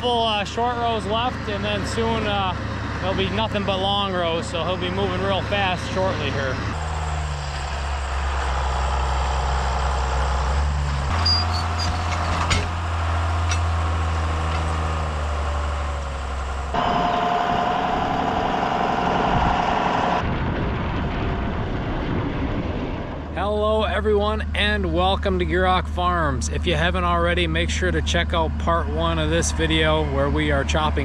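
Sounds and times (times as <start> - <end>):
tractor engines running: 0.0 - 20.5, 23.2 - 31.0.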